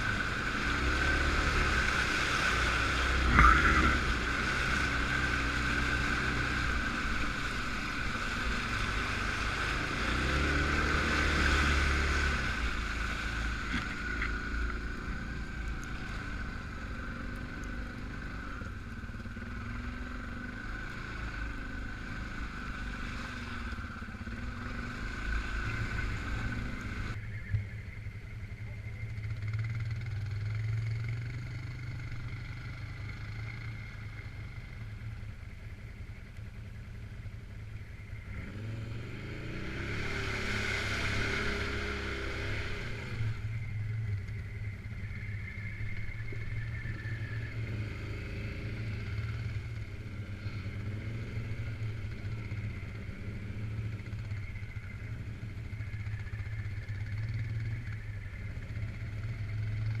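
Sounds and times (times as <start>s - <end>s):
quad bike engine running: 0.0s - 60.0s.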